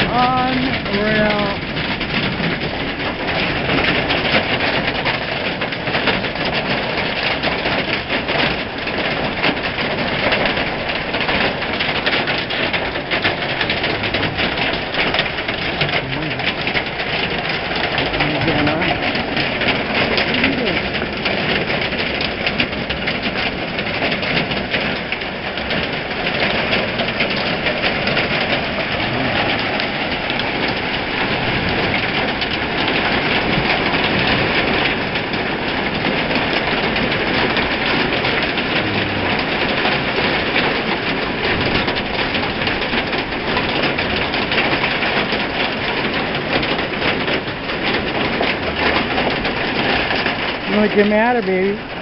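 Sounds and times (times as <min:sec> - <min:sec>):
hail on a roof: 0:00.0 - 0:52.0.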